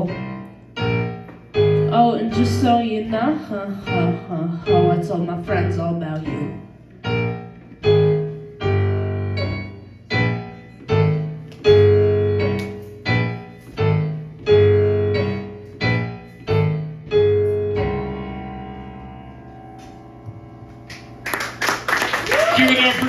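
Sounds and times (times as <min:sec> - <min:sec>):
piano chords: 0:00.0 - 0:23.0.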